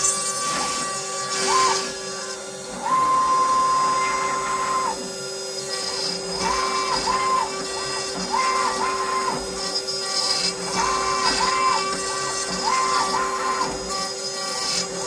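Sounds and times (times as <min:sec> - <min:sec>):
router spindle humming: 0:00.0 - 0:15.0
stepper motors whining: 0:00.0 - 0:15.0.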